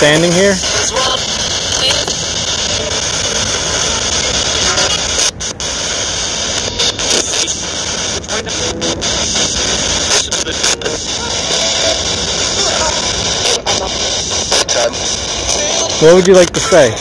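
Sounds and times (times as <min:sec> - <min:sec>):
radio static rushing: 0:00.0 - 0:17.0.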